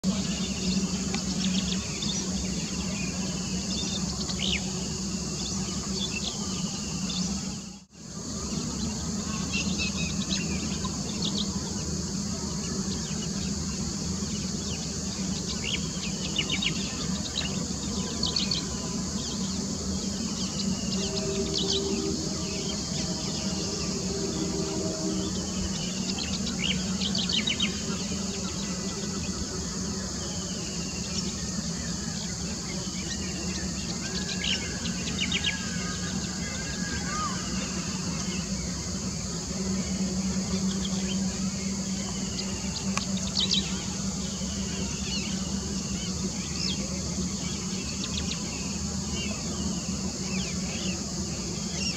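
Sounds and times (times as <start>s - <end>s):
insects droning: 0.0s - 51.9s
low steady hum: 0.0s - 51.9s.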